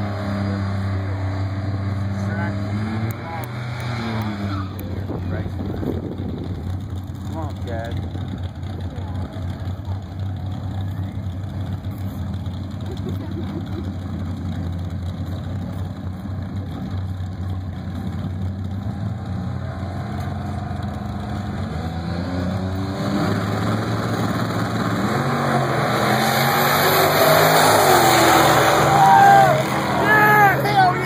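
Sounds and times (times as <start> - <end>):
drag racing engines revving: 0.0 - 31.0
race cars accelerating: 0.0 - 31.0.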